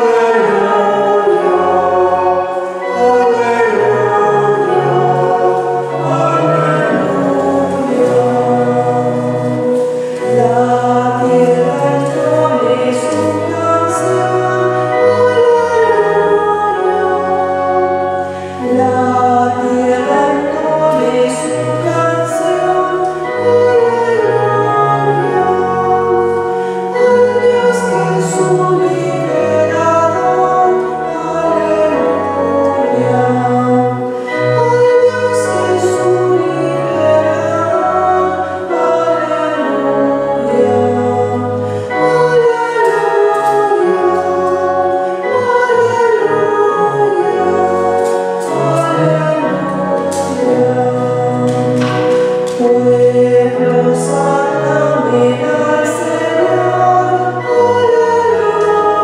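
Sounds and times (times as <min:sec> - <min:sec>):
choir sound carrying melody: 0:00.0 - 0:59.0
organ playing hymn chords: 0:00.0 - 0:59.0.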